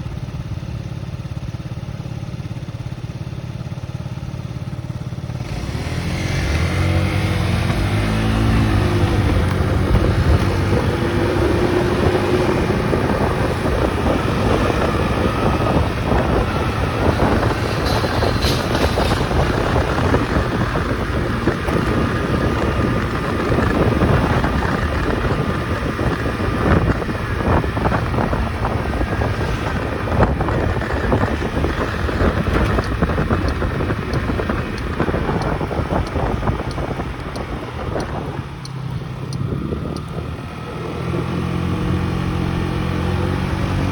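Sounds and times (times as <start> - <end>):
small motorcycle engine: 0.0 - 43.9
wind noise on microphone: 5.4 - 43.9.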